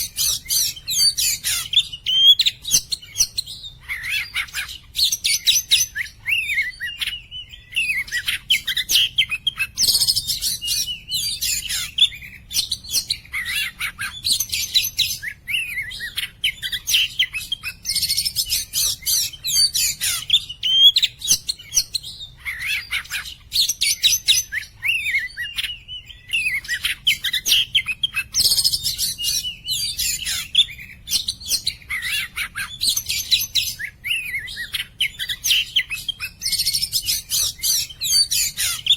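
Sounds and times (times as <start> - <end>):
bird singing whistled phrases: 0.0 - 38.9.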